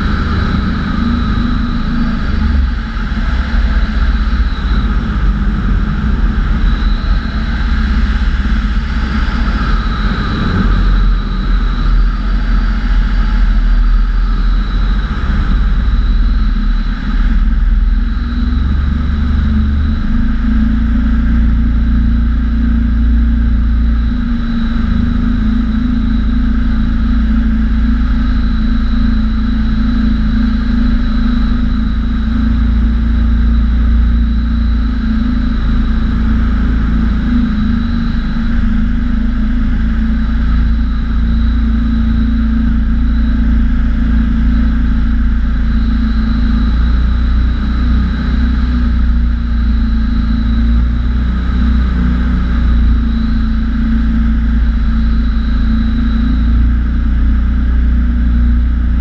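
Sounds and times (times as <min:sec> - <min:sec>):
engine and propeller drone: 0:00.0 - 0:59.0
thin high whine: 0:00.0 - 0:59.0
wind rumble on microphone: 0:00.0 - 0:59.0.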